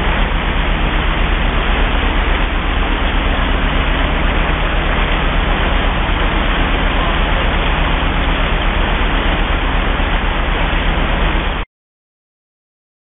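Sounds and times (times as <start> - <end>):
water rushing past hull: 0.0 - 11.6
low engine hum: 0.0 - 11.7.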